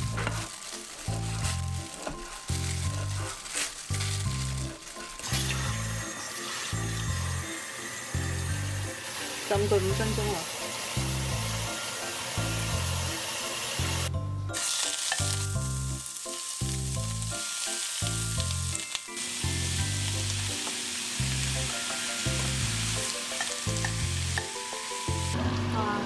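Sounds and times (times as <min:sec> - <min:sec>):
meat sizzling in a pan: 0:00.0 - 0:25.4
bass-heavy background music: 0:00.0 - 0:26.0.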